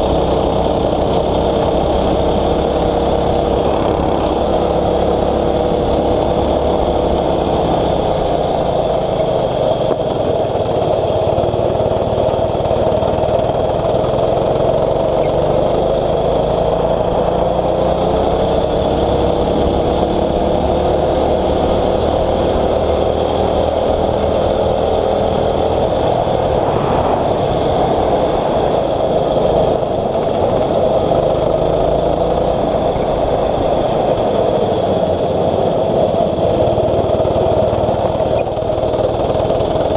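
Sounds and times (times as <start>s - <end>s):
kart engine running under load: 0.0s - 39.9s.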